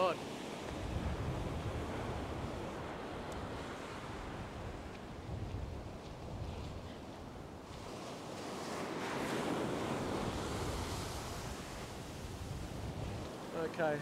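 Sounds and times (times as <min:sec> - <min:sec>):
ocean surf breaking on sand: 0:00.0 - 0:14.0
wind rumbling on microphone: 0:00.3 - 0:13.6.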